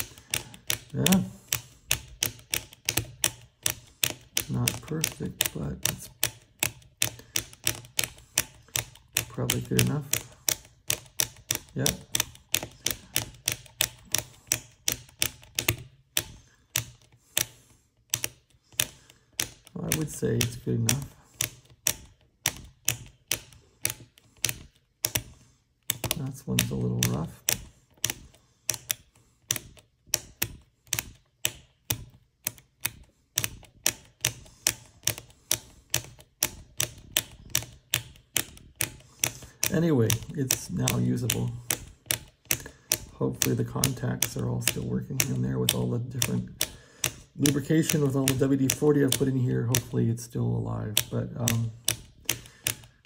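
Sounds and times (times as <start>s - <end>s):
push buttons clicking: 0.0s - 53.0s.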